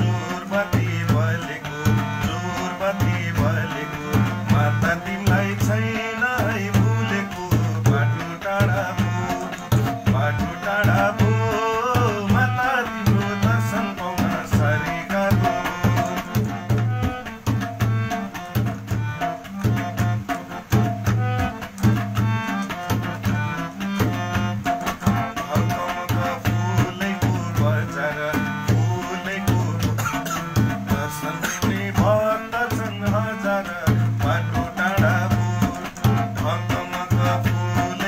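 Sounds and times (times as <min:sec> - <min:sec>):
hand drum strokes: 0:00.0 - 0:38.0
harmonium melody: 0:00.0 - 0:38.0.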